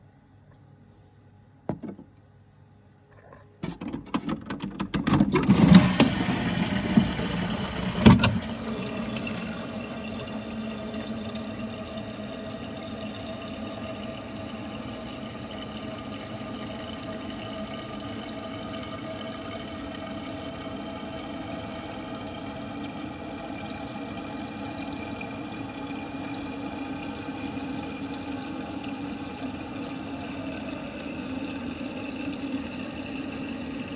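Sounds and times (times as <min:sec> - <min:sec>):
toilet flush click: 0:03.6 - 0:33.9
toilet flush water rushing: 0:03.6 - 0:33.9
cistern refilling hiss: 0:05.3 - 0:33.9.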